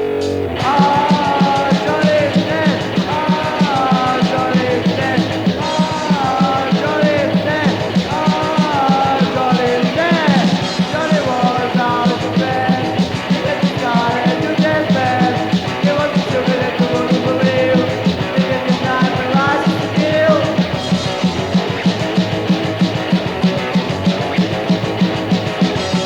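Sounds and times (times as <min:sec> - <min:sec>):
hardcore punk song: 0:00.0 - 0:26.0
lead guitar line bending: 0:00.0 - 0:26.0.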